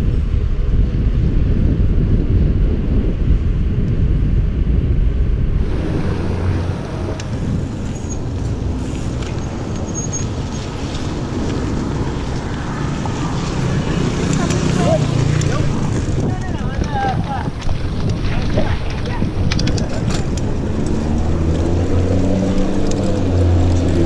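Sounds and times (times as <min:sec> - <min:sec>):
road and traffic noise: 0:00.0 - 0:24.0
wind buffeting microphone: 0:00.0 - 0:24.0.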